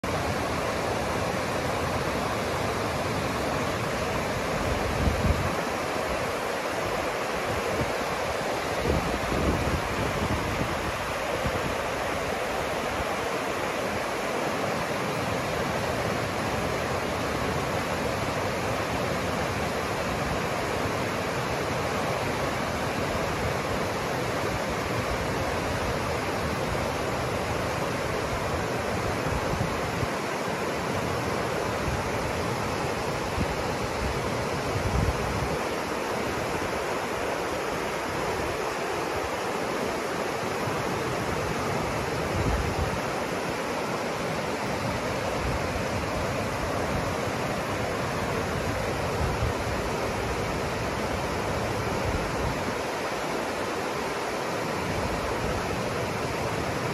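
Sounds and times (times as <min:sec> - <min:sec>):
river rapids rushing over rocks: 0:00.0 - 0:56.9.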